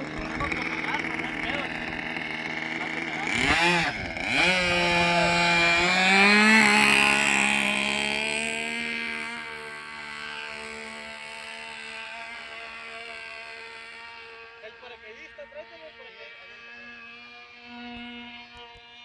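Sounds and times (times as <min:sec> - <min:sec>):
model plane engine high-pitched drone: 0:00.0 - 0:19.0.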